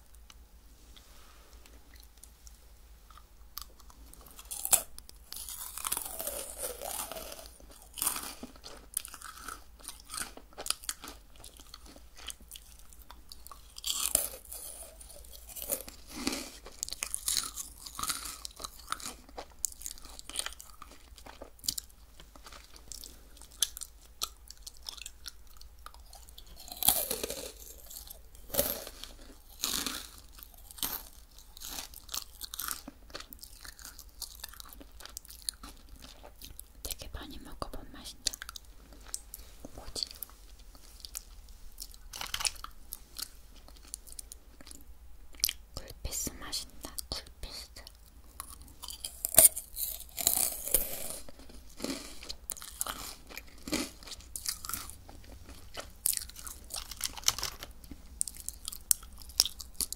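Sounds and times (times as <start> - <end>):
crunching and chewing cookie: 0.0 - 59.9.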